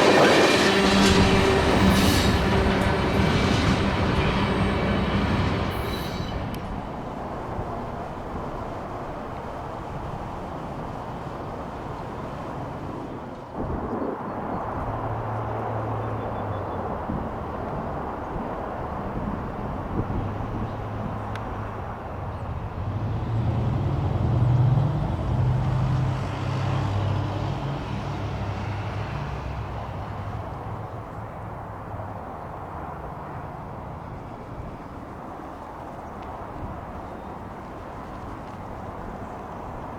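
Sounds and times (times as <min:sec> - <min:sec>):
diesel locomotive engines droning: 0:00.0 - 0:39.9
freight train passing: 0:00.0 - 0:39.9.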